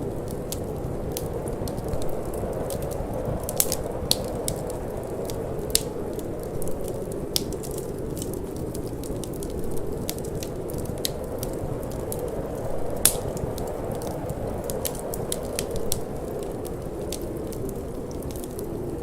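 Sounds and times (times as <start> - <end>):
rushing of wind and flame: 0.0 - 19.0
wood fire crackling: 0.0 - 19.0.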